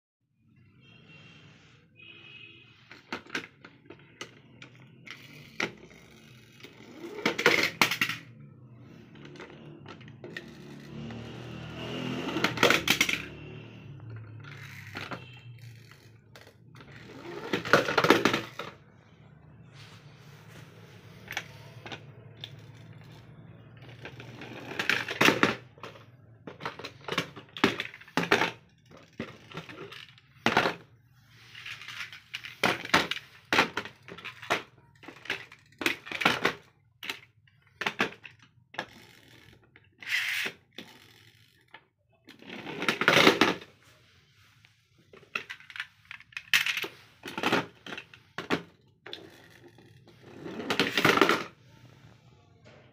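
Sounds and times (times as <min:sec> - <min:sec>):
metal toy cars clinking: 0:02.9 - 0:18.8, 0:21.1 - 0:43.7, 0:45.2 - 0:51.8.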